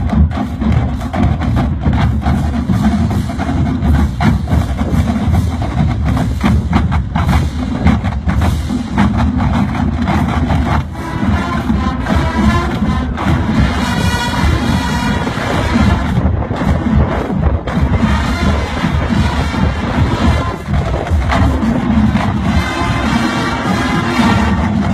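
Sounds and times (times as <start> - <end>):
drum strokes: 0.0 - 24.9
marching band playing: 0.0 - 24.9.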